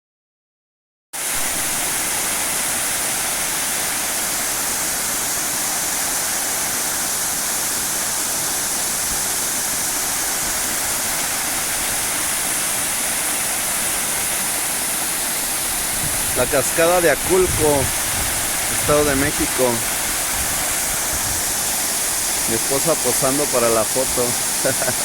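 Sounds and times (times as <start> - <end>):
waterfall rushing: 1.2 - 25.0.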